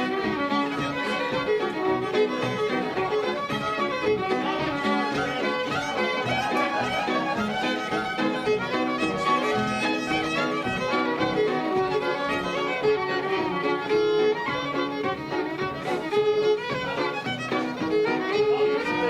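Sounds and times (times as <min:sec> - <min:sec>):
fiddles playing a fast reel: 0:00.0 - 0:19.0.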